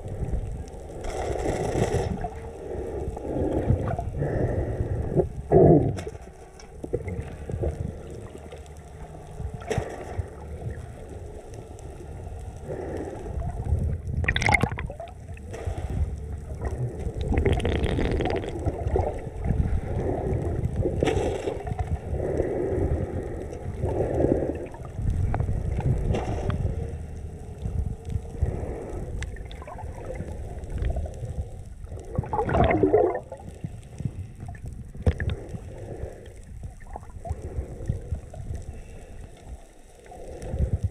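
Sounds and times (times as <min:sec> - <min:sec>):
muffled underwater rumble: 0:00.0 - 0:40.9
underwater gurgling and bubbling: 0:00.0 - 0:40.9.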